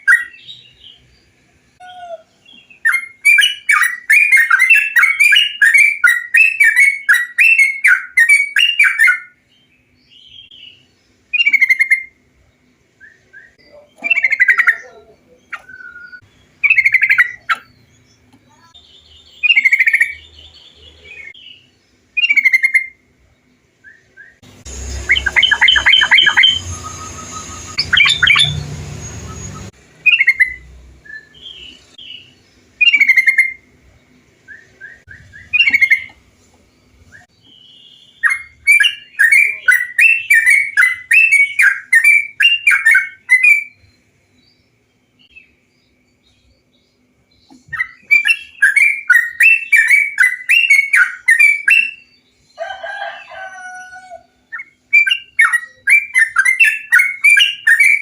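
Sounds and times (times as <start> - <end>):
bulbuls chirping: 0.0 - 58.0.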